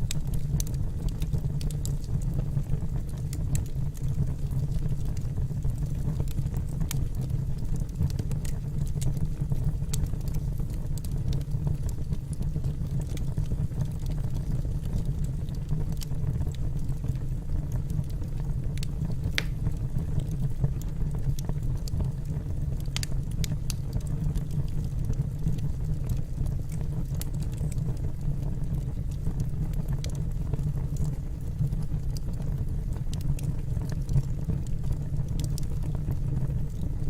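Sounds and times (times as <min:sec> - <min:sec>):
logs crackling and popping: 0:00.0 - 0:37.0
low rumble of flames: 0:00.0 - 0:37.0.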